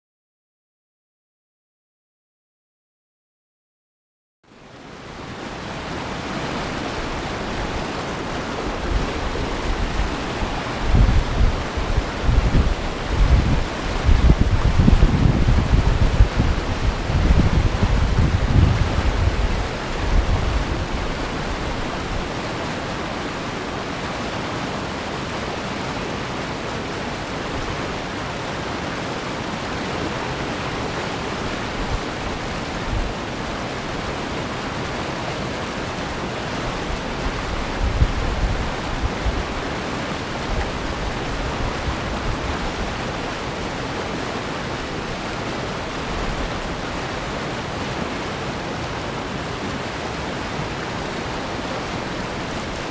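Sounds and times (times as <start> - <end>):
river rapids rushing over rocks: 4.5 - 52.9
wind gusts buffeting microphone: 5.6 - 52.9.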